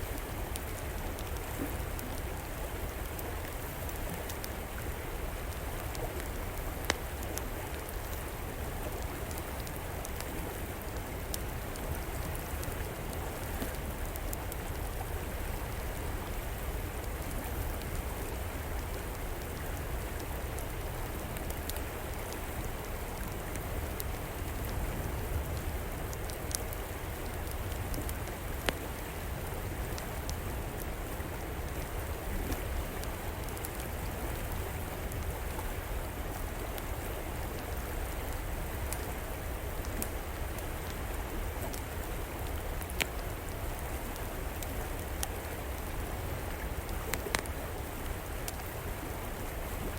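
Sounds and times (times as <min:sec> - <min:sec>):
river water flowing: 0:00.0 - 0:49.9
wood fire crackling: 0:00.2 - 0:49.5.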